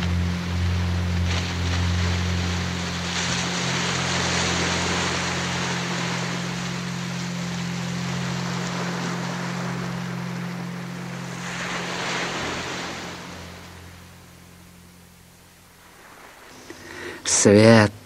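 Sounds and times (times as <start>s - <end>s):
low music drone: 0.0s - 18.0s
surf rushing: 0.0s - 18.0s.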